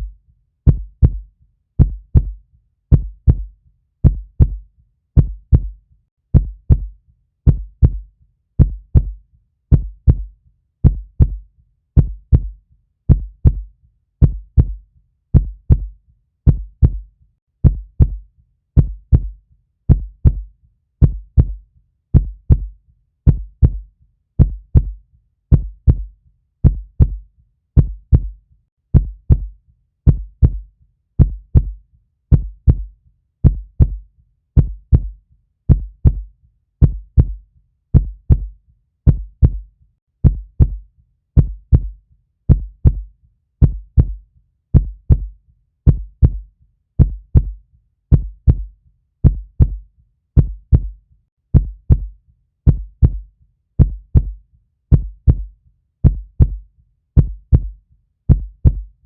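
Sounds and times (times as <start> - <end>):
heartbeat thumps: 0.7 - 4.6, 5.2 - 11.4, 12.0 - 18.2, 18.8 - 27.2, 27.8 - 34.0, 34.6 - 40.8, 41.4 - 49.8, 50.4 - 56.6, 57.2 - 59.0.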